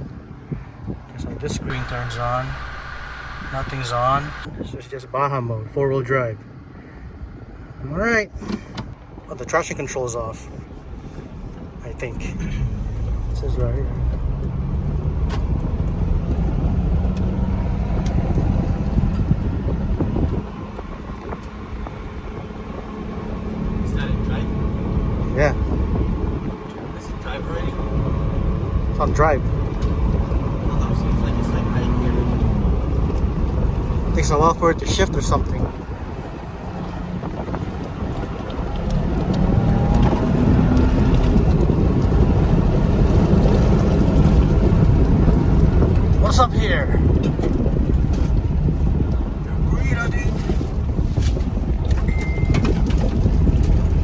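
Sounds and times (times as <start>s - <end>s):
engine rumble inside cabin: 0.0s - 4.6s, 10.4s - 54.0s
wind noise on microphone: 0.0s - 5.7s, 6.7s - 54.0s.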